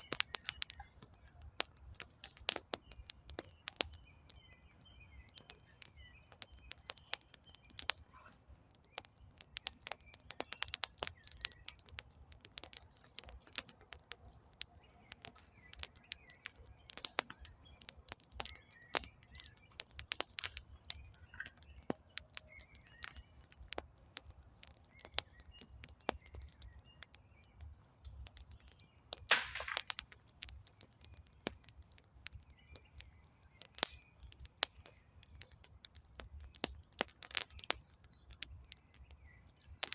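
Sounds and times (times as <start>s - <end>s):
campfire crackling and popping: 0.0s - 39.9s
faint birds chirping: 0.0s - 39.9s.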